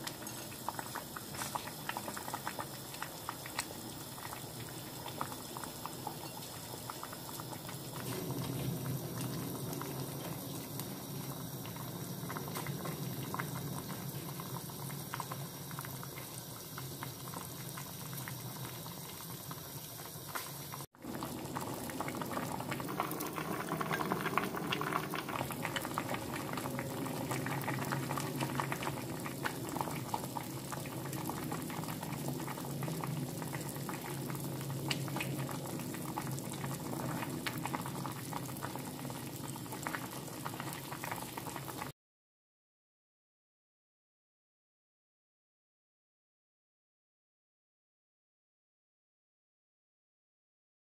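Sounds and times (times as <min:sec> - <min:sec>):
stew bubbling in a pot: 0:00.0 - 0:41.9.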